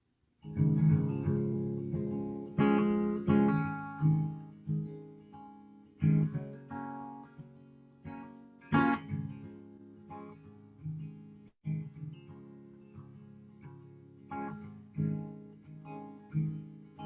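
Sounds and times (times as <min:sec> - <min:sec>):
acoustic guitar chords: 0:00.4 - 0:17.0.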